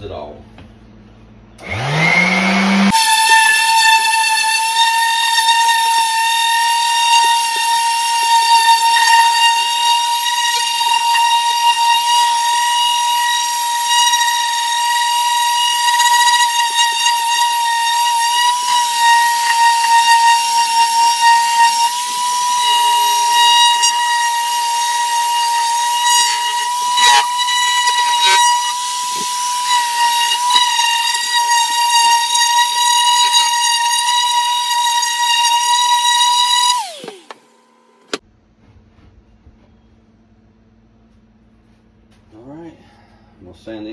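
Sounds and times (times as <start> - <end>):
orbital sander sanding wood: 1.6 - 37.5.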